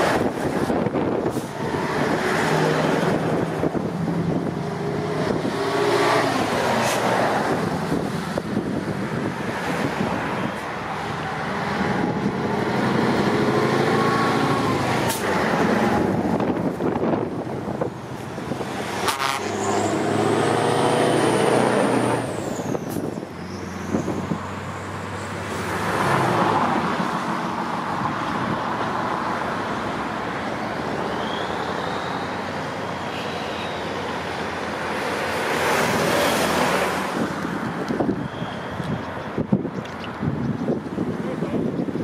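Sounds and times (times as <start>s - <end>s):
trucks driving past: 0.0s - 42.0s.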